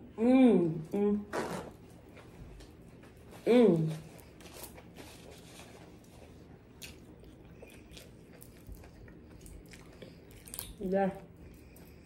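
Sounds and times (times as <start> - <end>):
faint chewing: 2.0 - 12.0.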